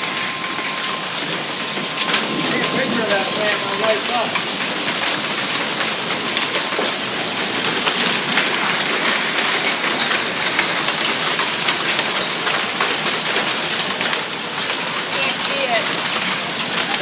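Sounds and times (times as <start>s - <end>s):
hailstones striking: 0.0s - 17.0s
heavy rain hissing: 0.0s - 17.0s.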